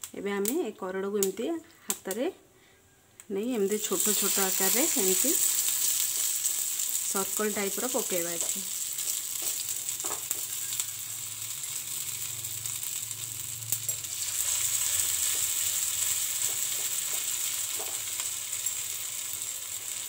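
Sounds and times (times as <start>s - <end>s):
batter sizzling in hot oil: 3.6s - 20.0s.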